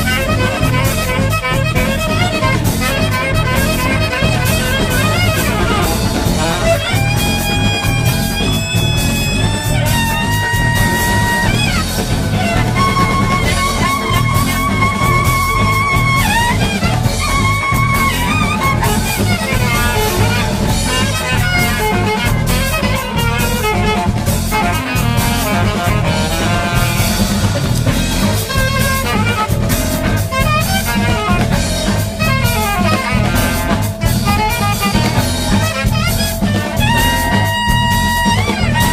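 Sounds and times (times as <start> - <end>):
sliding melody of held notes: 0.0 - 38.9
steady drum beat: 0.0 - 38.9.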